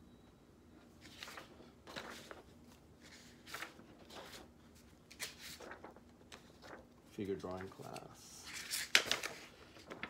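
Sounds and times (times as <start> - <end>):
paper pages rustling: 0.8 - 10.0.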